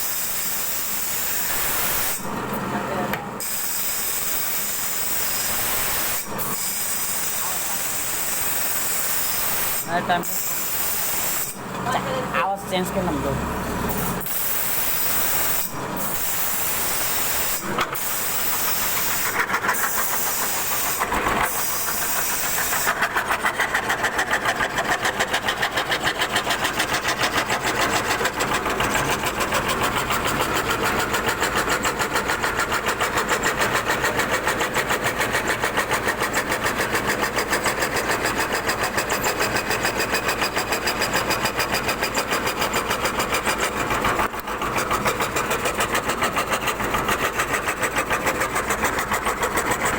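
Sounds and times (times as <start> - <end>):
router cutting wood: 0.0 - 49.9.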